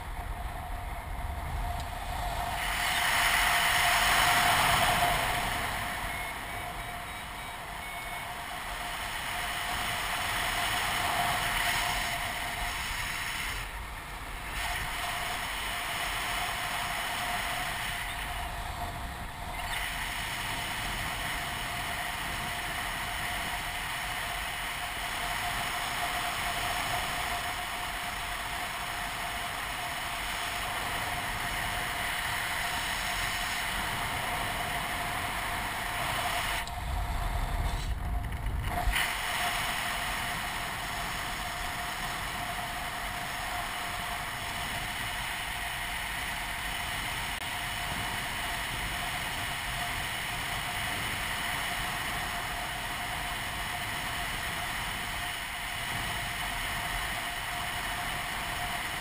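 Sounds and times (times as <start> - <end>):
paramotor engine running: 0.0 - 59.0
wind noise: 0.0 - 59.0.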